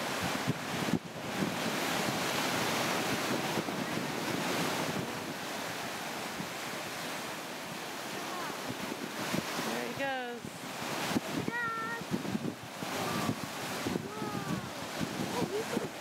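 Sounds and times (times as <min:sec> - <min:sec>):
ocean surf washing over rocks: 0:00.0 - 0:16.0
wind buffeting microphone: 0:00.0 - 0:16.0.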